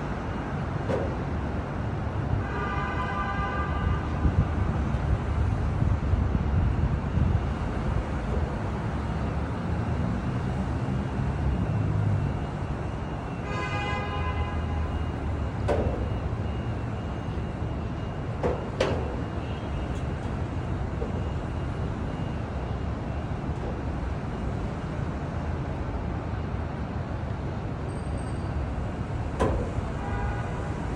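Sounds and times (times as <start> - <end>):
city traffic noise: 0.0 - 30.9.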